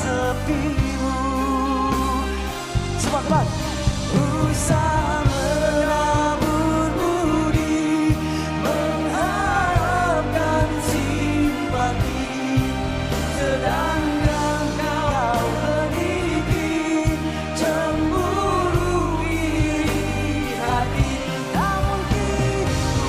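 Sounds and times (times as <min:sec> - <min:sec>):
bass guitar: 0:00.0 - 0:23.0
person singing: 0:00.0 - 0:23.0
steady drum beat: 0:00.3 - 0:23.0.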